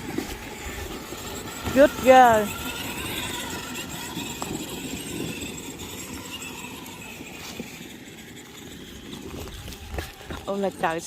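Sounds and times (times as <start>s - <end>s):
electric toy car driving: 0.0s - 11.0s.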